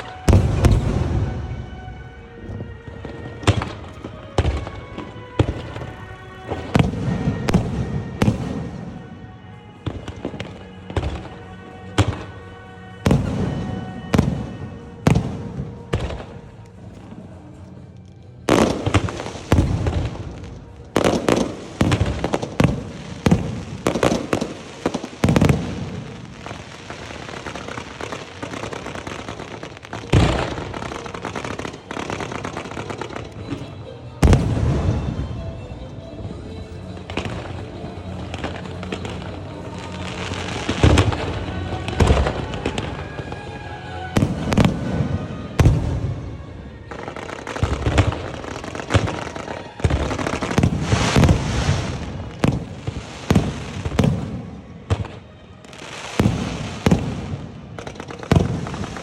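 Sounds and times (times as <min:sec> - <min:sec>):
fireworks bangs and crackling: 0:00.0 - 0:59.0
music: 0:00.0 - 0:59.0.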